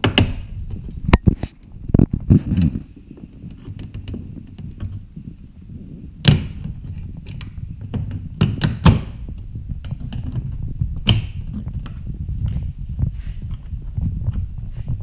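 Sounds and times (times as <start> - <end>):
low rumble: 0.4 - 8.4, 9.0 - 15.0.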